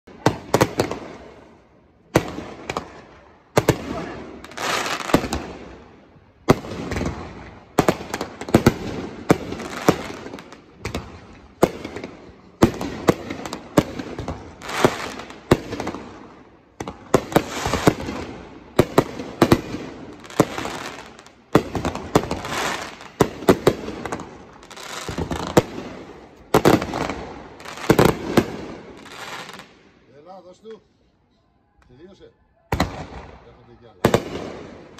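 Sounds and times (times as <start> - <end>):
fireworks bangs: 0.1 - 29.9, 32.7 - 34.9
fireworks crackling: 0.1 - 29.9.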